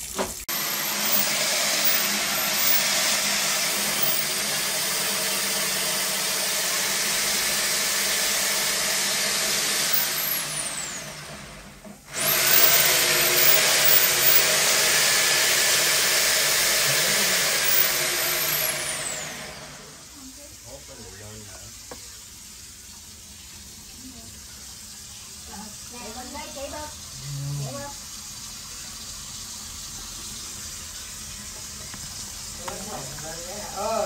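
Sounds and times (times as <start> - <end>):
water jet hissing: 0.0 - 11.3, 12.2 - 34.0
pump motor hum: 0.0 - 34.0.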